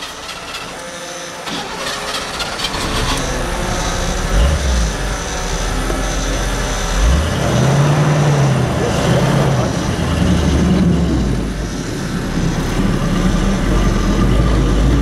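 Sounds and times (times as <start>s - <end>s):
truck engine rumbling and revving: 0.0s - 15.0s.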